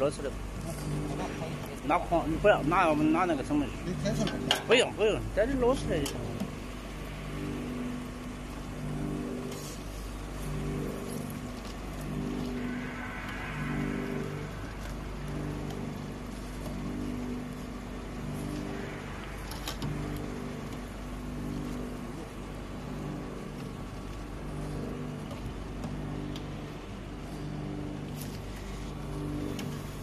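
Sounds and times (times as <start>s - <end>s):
machinery hum with pulsing tones: 0.0s - 30.0s.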